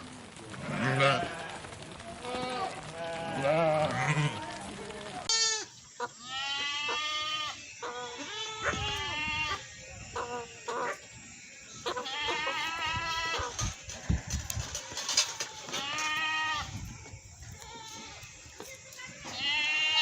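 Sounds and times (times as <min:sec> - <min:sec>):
goats bleating: 0:00.5 - 0:20.0.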